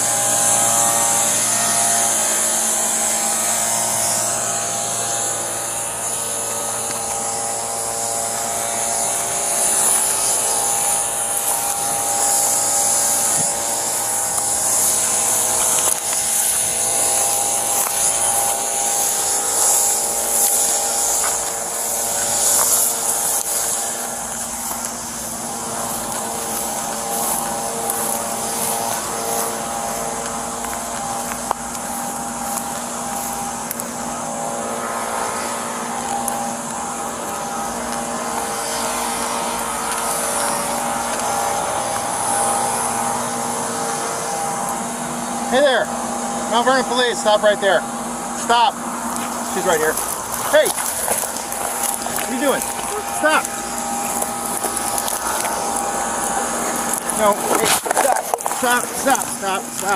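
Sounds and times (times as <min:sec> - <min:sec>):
mechanical drone with hiss: 0:00.0 - 0:59.9.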